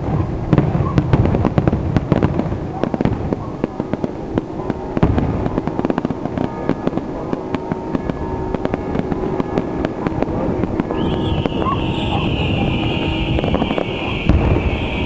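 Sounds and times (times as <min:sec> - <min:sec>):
fireworks bangs and crackles: 0:00.0 - 0:15.0
heavy firework bang: 0:00.0 - 0:15.0.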